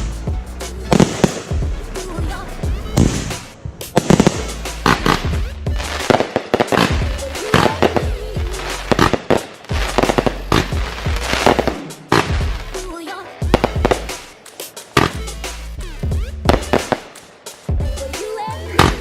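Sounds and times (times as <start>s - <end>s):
background music: 0.0s - 19.0s
fireworks bangs and crackling: 0.0s - 19.0s.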